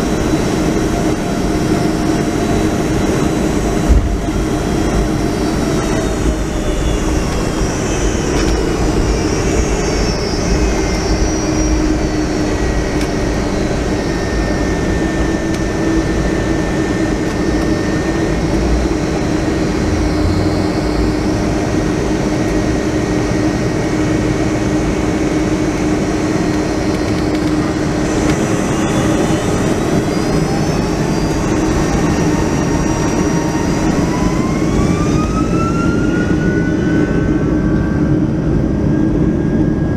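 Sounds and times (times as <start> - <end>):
engine whine rising in pitch: 0.0 - 39.9
jet engine cabin rumble: 0.0 - 39.9.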